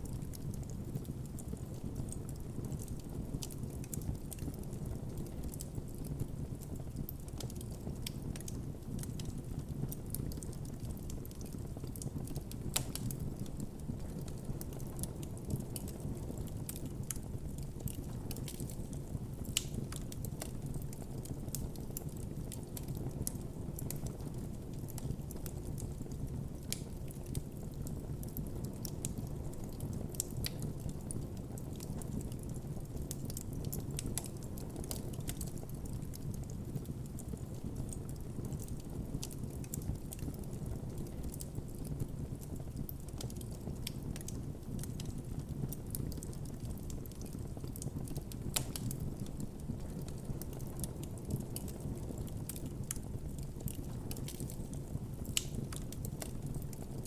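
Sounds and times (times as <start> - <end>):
burning wood crackling and popping: 0.0 - 57.0
low rush of flames: 9.0 - 57.0.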